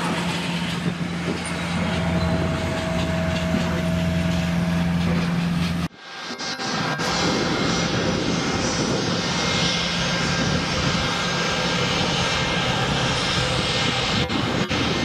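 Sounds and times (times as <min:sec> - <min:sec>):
faint jet engine whine: 0:00.0 - 0:15.0
jet engines running: 0:00.0 - 0:15.0.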